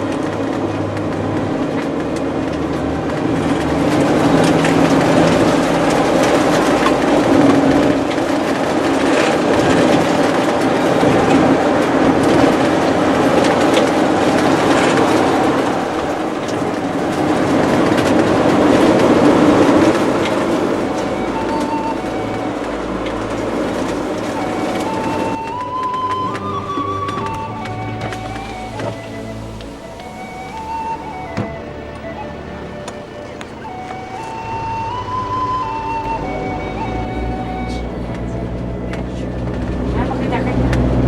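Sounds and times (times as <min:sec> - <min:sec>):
road noise: 0:00.0 - 0:41.0
vehicle rumble: 0:00.0 - 0:41.0.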